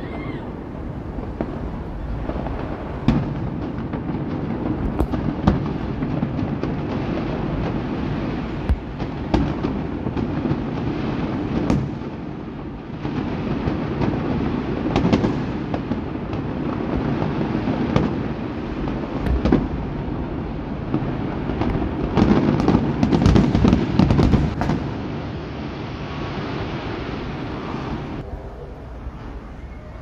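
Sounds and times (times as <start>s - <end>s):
fireworks booming and cracking: 0.0s - 29.8s.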